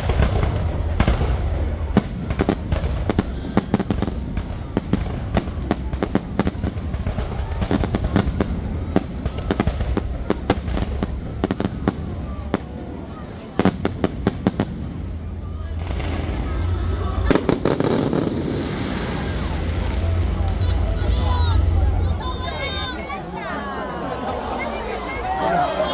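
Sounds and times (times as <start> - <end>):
fireworks cracking and popping: 0.0 - 22.0.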